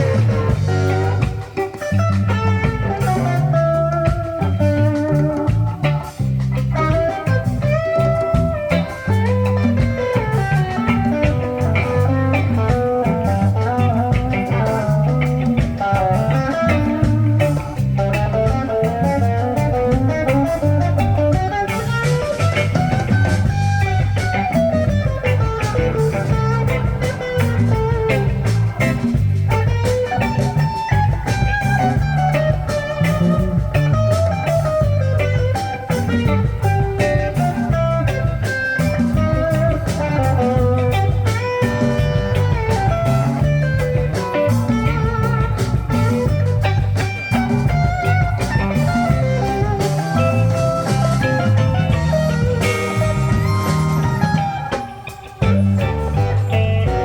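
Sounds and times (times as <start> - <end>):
bass guitar: 0.0 - 57.0
drums: 0.0 - 57.0
guitar melody: 0.0 - 57.0.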